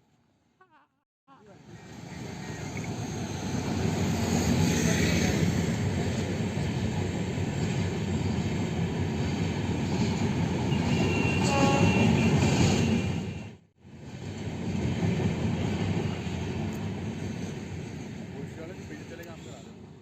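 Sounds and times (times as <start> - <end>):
train wheels rumbling on rails: 1.8 - 19.9.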